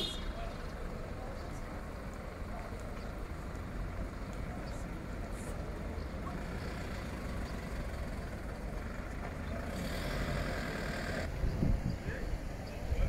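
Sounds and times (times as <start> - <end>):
street low rumble: 0.0 - 13.0.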